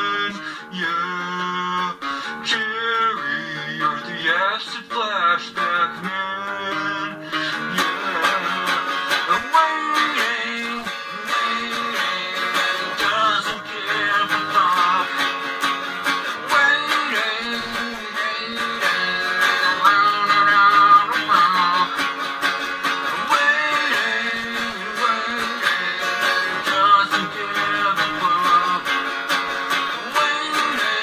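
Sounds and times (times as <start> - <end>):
guitar strumming chords: 0.0 - 31.0.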